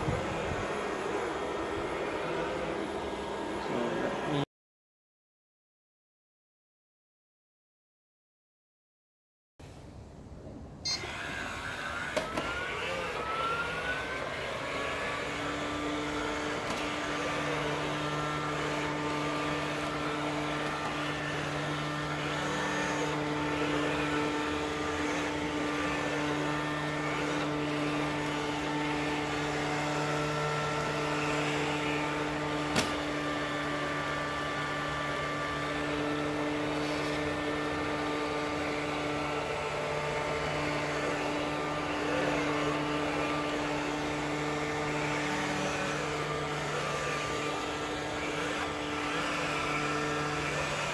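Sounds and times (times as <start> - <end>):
robot vacuum cleaner whirring: 0.0 - 4.4, 10.8 - 50.9.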